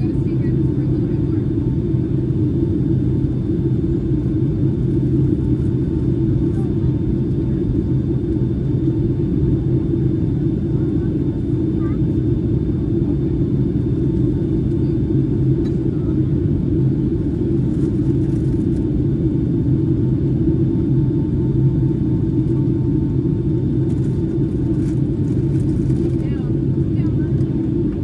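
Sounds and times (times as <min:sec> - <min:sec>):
airliner cabin engine drone: 0:00.0 - 0:28.0
faint steady whines: 0:00.0 - 0:28.0.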